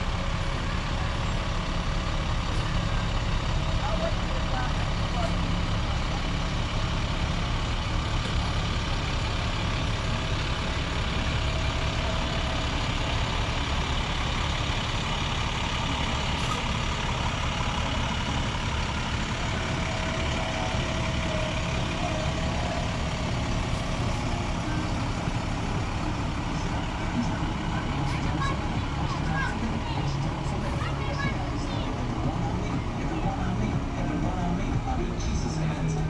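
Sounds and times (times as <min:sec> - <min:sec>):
diesel engine running slowly: 0:00.0 - 0:36.0.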